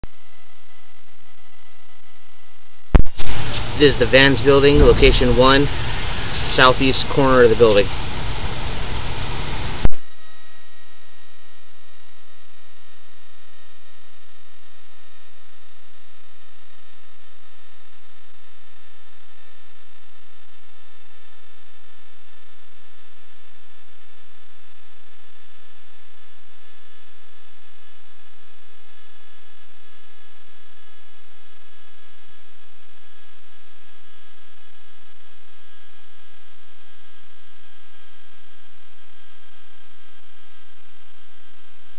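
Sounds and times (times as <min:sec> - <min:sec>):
electrical hum and hiss: 0:00.0 - 0:41.9
faint whining tones: 0:00.0 - 0:41.9.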